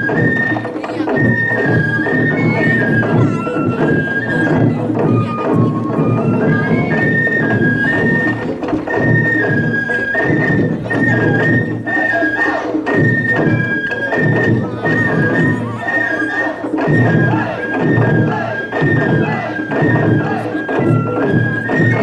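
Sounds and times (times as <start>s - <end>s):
taiko drums ensemble: 0.0s - 22.0s.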